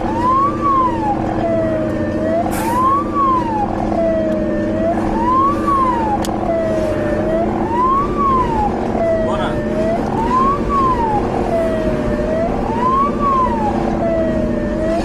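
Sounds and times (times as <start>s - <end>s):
engine and road drone: 0.0s - 15.0s
police siren wailing: 0.0s - 15.0s.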